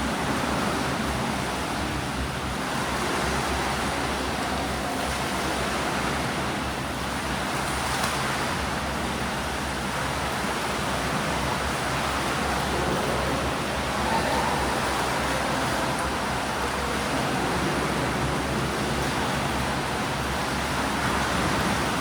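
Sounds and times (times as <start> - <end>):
swimmers churning water: 0.0 - 22.0.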